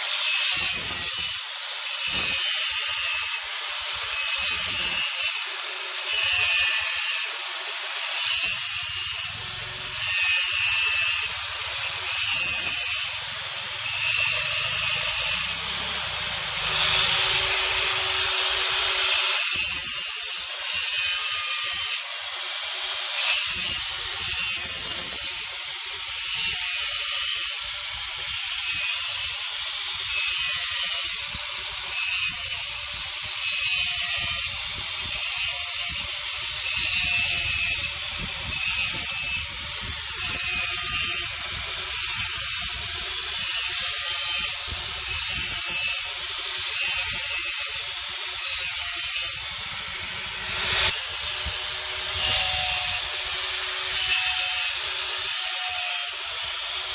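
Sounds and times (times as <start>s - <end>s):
hand tool rasping metal: 0.0s - 9.4s, 10.0s - 22.1s, 30.1s - 56.9s.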